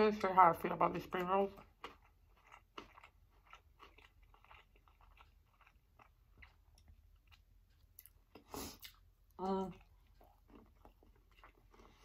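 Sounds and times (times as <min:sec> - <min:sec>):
chewing with mouth clicks: 0:01.2 - 0:12.0.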